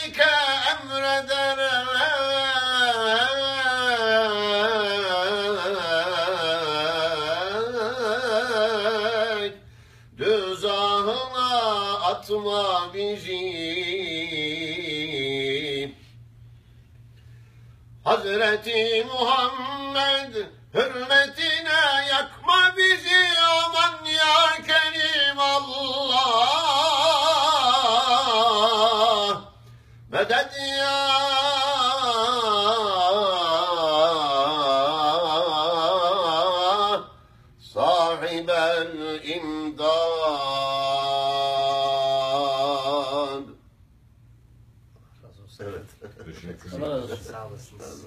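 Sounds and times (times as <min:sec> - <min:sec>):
man chanting melismatic religious ode: 0:00.0 - 0:16.0, 0:18.0 - 0:29.5, 0:30.1 - 0:43.6.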